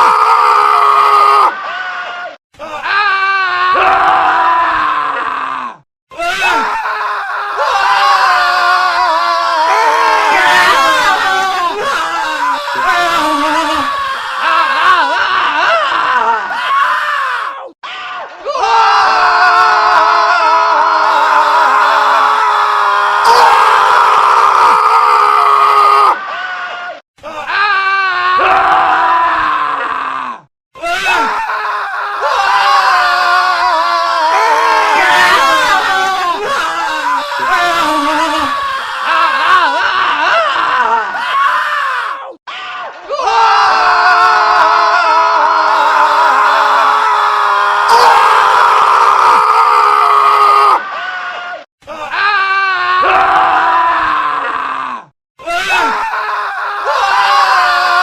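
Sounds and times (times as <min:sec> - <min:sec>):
men screaming: 0:00.0 - 0:58.0.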